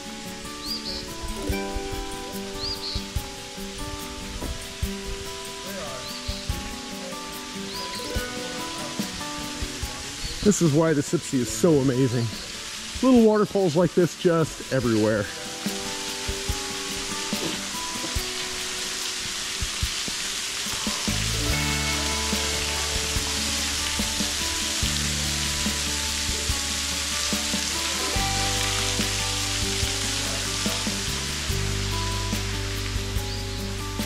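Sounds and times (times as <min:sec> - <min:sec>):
soft background music: 0:00.0 - 0:34.0
waterfall splashing onto rocks: 0:00.2 - 0:34.0.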